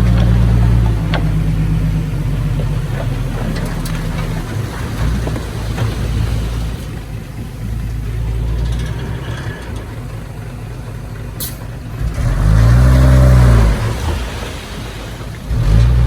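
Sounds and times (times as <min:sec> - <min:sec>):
diesel engine rumbling and revving: 0:00.0 - 0:16.0.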